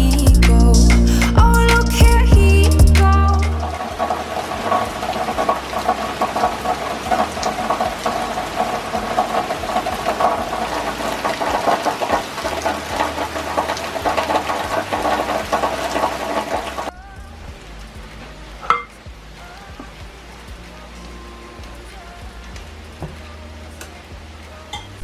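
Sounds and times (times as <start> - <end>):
low rumble: 0.0 - 11.5, 12.6 - 24.5
heavy rain pouring: 0.0 - 25.0.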